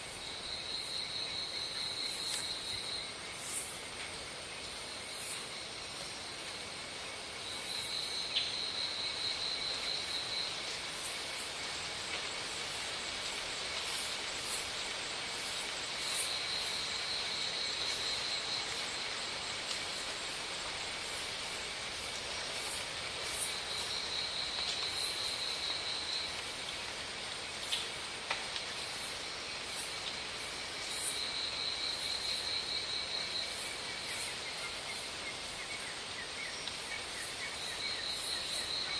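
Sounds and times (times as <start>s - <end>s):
insects buzzing: 0.0s - 38.9s
steady hiss: 0.0s - 38.9s.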